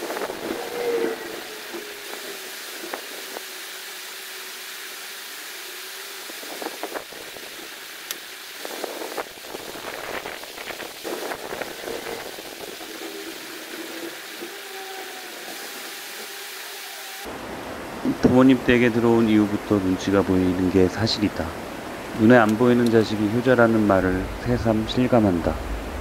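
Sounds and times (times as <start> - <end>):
rushing background with hum: 0.0 - 26.0.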